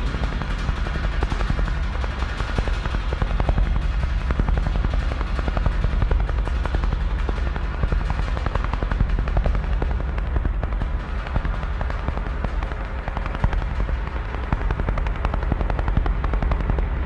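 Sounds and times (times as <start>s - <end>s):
deep low rumble: 0.0s - 17.0s.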